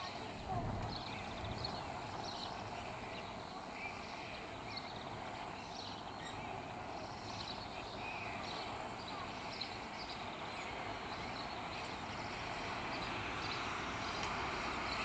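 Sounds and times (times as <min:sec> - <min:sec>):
outdoor background noise: 0:00.0 - 0:15.0
small birds chirping: 0:00.0 - 0:15.0.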